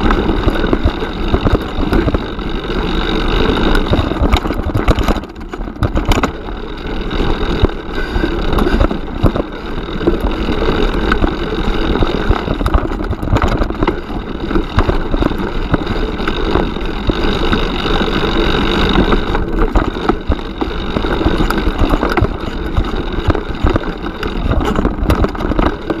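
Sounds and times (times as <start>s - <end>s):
bike clicking and rattling: 0.0s - 26.0s
tyres rumbling on stones: 0.0s - 26.0s.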